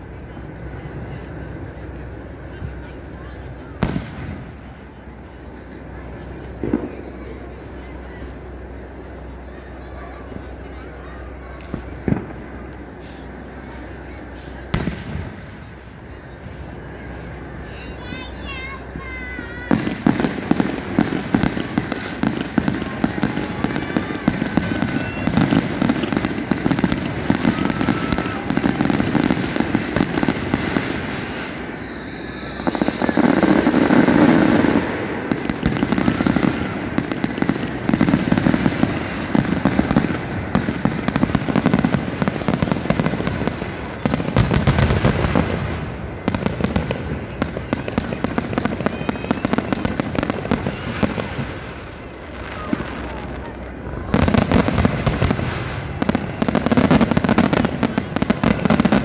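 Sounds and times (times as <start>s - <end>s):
fireworks crackling and popping: 0.0s - 59.0s
fireworks booms: 1.0s - 31.8s, 32.4s - 59.0s.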